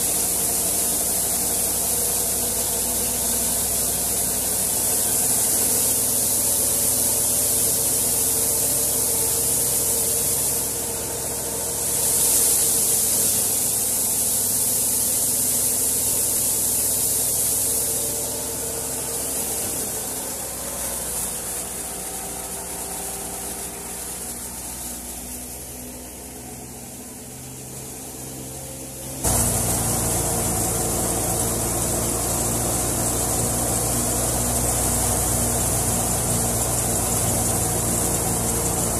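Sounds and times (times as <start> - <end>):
wheat thresher running: 0.0 - 38.9.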